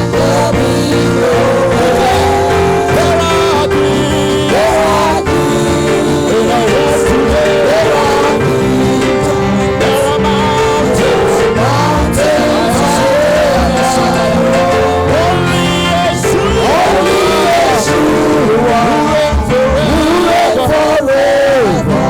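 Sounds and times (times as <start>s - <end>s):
held instrumental chords: 0.0s - 22.0s
person singing worship song: 0.0s - 22.0s.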